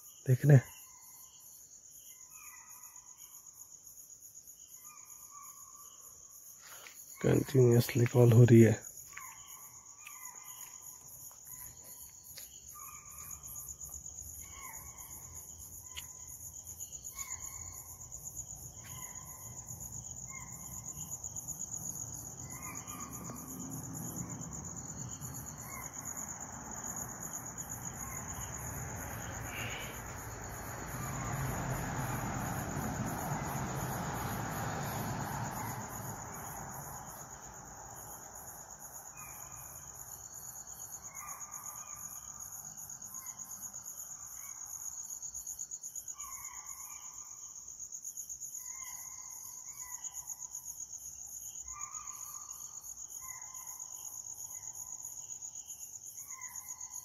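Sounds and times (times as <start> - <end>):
night insects droning: 0.0 - 57.0.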